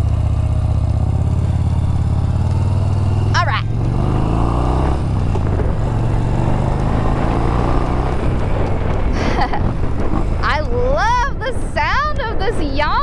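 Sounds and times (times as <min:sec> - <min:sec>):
motorcycle engine running: 0:00.0 - 0:13.0
wind noise: 0:01.0 - 0:13.0.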